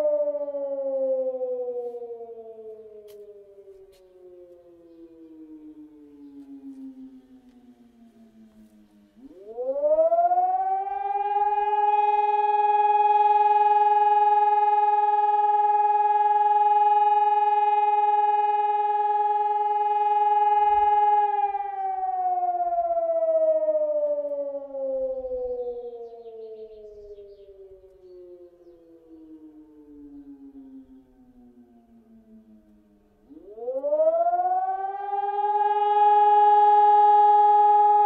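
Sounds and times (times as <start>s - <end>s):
electronic siren: 0.0s - 38.0s.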